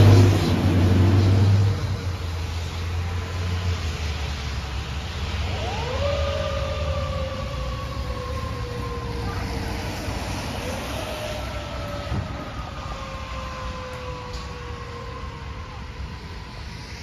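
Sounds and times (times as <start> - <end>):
fire engine siren: 0.0 - 17.0
low traffic rumble: 0.0 - 17.0.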